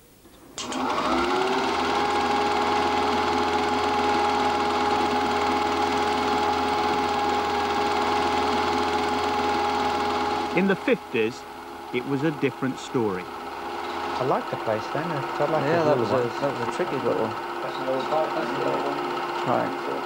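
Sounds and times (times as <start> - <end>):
film projector motor whirring: 0.4 - 20.0.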